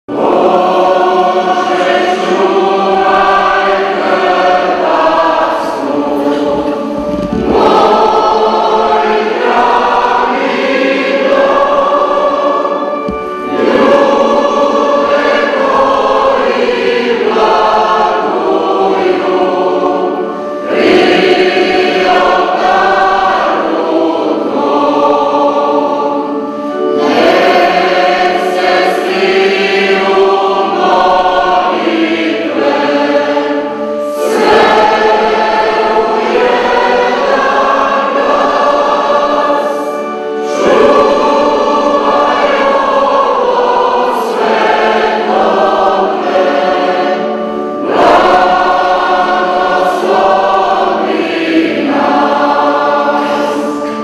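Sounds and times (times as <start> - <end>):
choir singing: 0.1 - 54.0.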